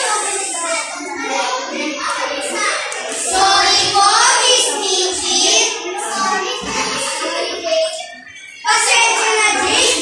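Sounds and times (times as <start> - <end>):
children chattering: 0.0 - 10.0
children singing together: 0.0 - 10.0.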